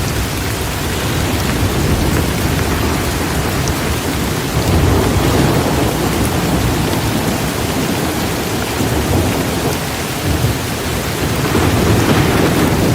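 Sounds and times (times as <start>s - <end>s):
heavy rain downpour: 0.0s - 12.9s
thunder rumbling: 0.0s - 12.9s.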